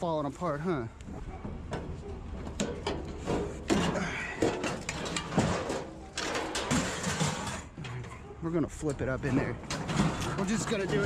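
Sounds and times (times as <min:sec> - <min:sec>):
metal grill clanking and rattling: 0:01.5 - 0:08.3, 0:08.9 - 0:11.0.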